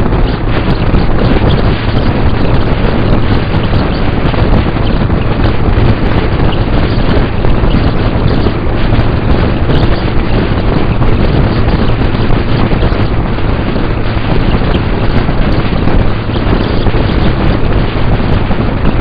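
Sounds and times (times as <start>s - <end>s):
heavy wind on microphone: 0.0s - 19.0s
motorcycle engine running: 0.0s - 19.0s.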